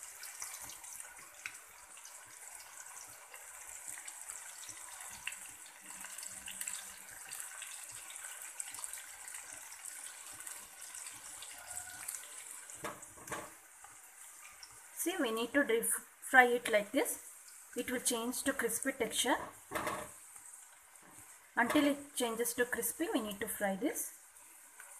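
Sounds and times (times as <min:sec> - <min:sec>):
deep-frying sizzle with pops: 0:00.0 - 0:24.9.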